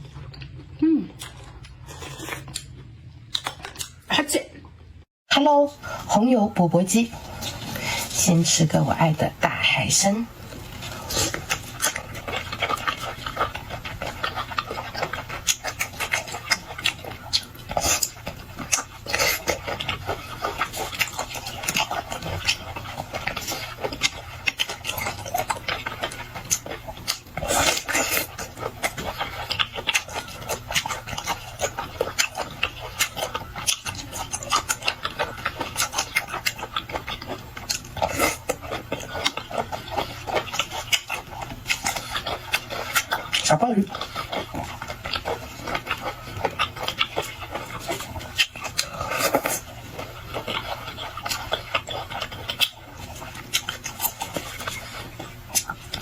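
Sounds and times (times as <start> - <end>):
wet chewing and slurping: 0.0 - 4.1, 6.9 - 56.0.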